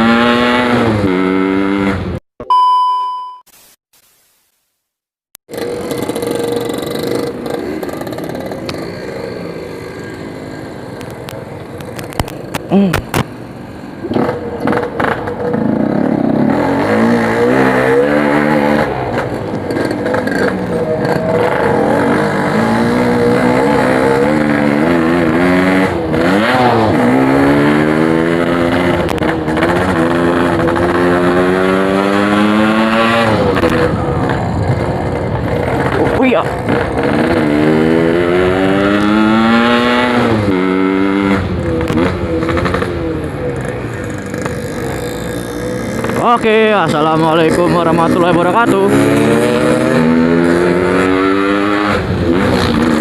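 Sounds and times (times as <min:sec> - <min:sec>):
motorcycle engine revving: 0:00.0 - 0:02.2, 0:05.5 - 0:53.0.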